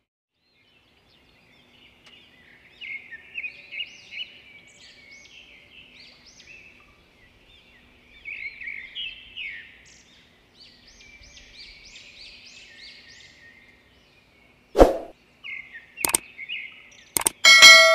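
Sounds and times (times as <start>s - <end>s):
birds chirping: 1.0s - 17.9s.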